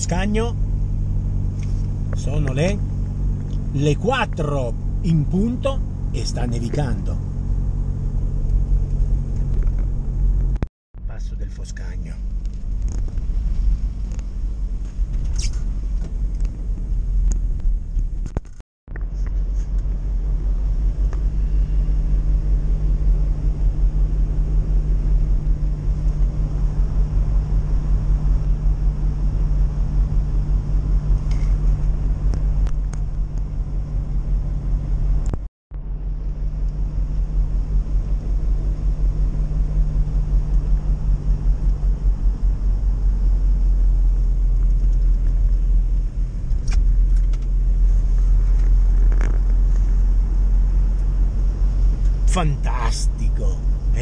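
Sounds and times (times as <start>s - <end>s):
road noise: 0.0s - 54.0s
van engine rumble: 0.0s - 54.0s.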